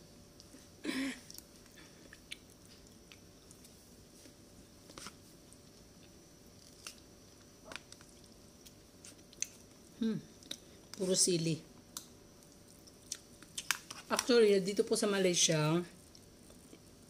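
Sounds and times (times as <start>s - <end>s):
soft chewing: 0.3s - 11.1s, 11.8s - 14.3s, 15.9s - 17.0s.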